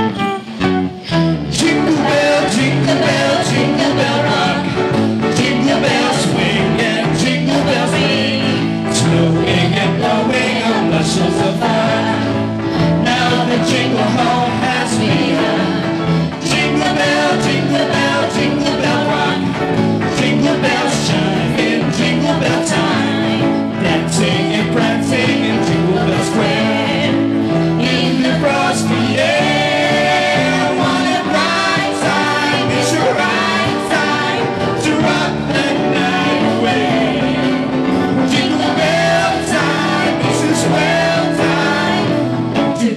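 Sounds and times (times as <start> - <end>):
live pop band playing: 0.0 - 42.9
people singing: 1.5 - 42.9.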